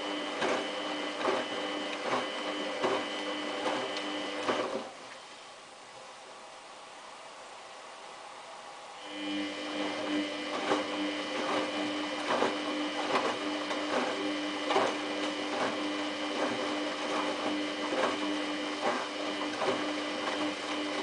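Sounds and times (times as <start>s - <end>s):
washing machine motor humming: 0.0s - 5.1s, 8.8s - 21.0s.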